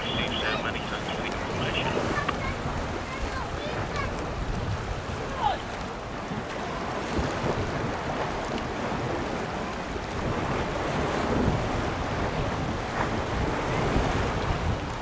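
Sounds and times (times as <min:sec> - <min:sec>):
rushing water: 0:00.0 - 0:15.0
wind buffeting microphone: 0:00.0 - 0:15.0.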